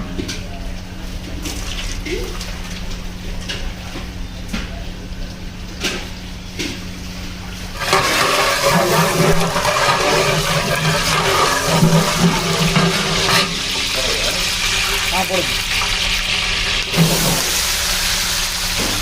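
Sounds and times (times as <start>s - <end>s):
water running and splashing: 0.8s - 4.0s, 5.1s - 19.0s.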